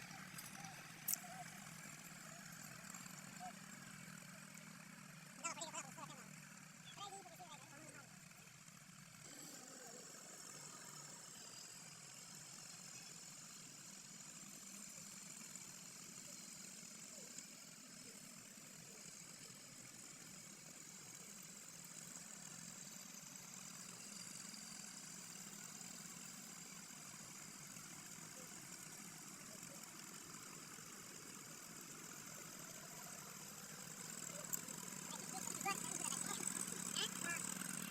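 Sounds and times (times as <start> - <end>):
faint tractor engine running: 0.0 - 37.9.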